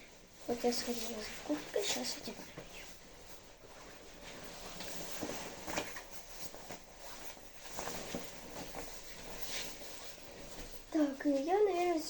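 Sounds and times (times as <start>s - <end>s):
jacket fabric rustling: 0.0s - 12.0s.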